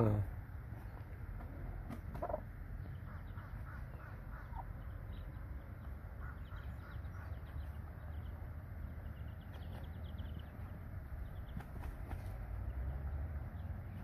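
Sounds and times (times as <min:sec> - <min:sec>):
chicks peeping: 0:00.8 - 0:14.0.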